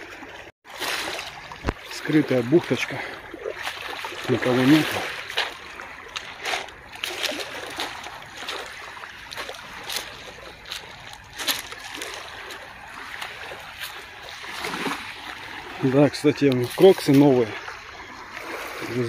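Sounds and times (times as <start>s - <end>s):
seawater splashing among rocks: 0.0s - 19.0s.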